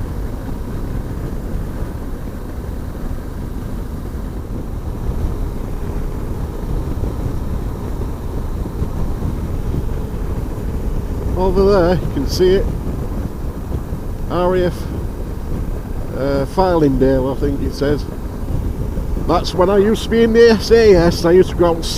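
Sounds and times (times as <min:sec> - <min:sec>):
motorcycle engine: 0:00.0 - 0:21.9
wind on microphone: 0:00.0 - 0:21.9.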